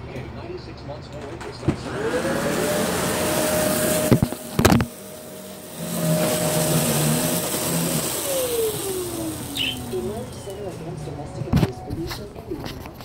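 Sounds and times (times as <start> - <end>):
vacuum cleaner motor whining: 1.6 - 12.4.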